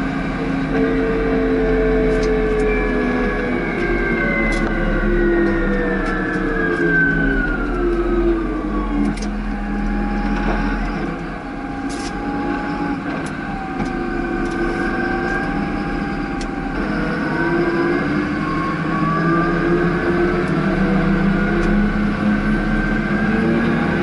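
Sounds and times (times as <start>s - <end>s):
tractor engine whine from cab: 0.0s - 24.0s.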